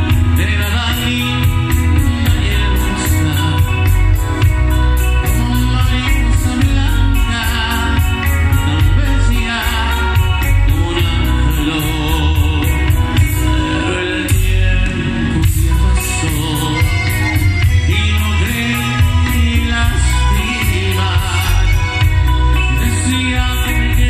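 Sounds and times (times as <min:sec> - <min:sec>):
live band playing: 0:00.0 - 0:24.0
man singing: 0:00.0 - 0:24.0.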